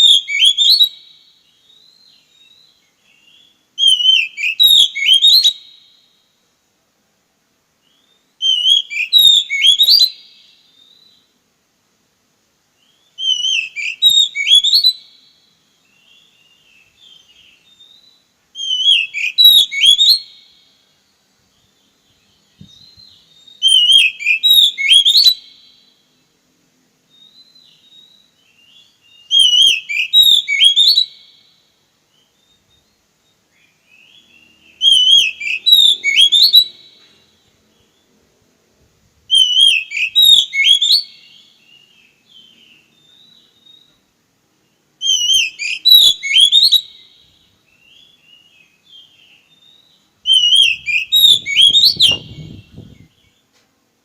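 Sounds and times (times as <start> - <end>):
bird singing: 0.0 - 6.4, 7.7 - 11.4, 12.7 - 26.4, 27.0 - 38.3, 39.3 - 53.6.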